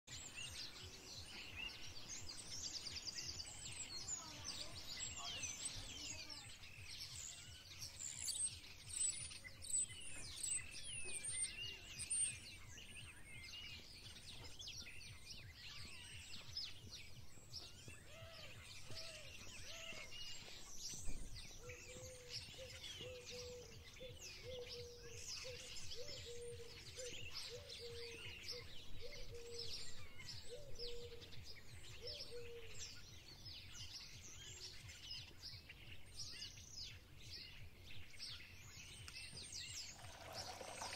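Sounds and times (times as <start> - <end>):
birds chirping and singing: 0.1 - 40.9.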